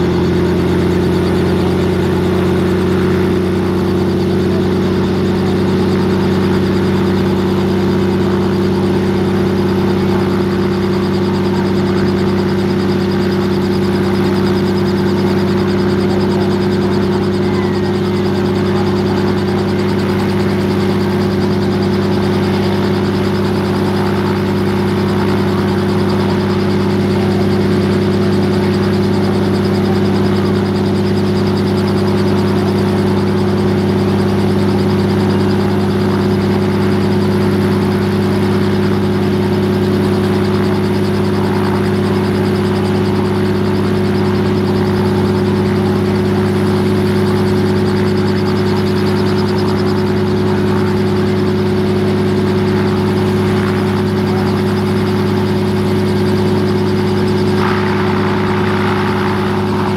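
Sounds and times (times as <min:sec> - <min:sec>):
helicopter idling: 0:00.0 - 0:59.9.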